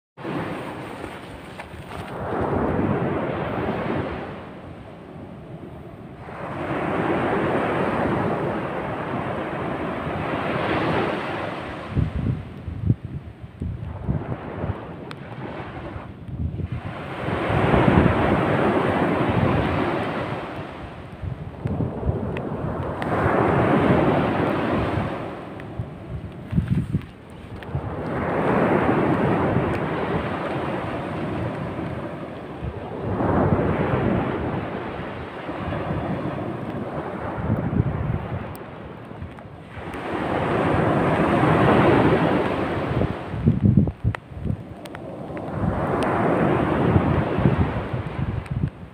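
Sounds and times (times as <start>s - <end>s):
small waves breaking on beach: 0.2s - 12.8s, 13.4s - 48.9s
wind rumbling on microphone: 0.2s - 48.9s.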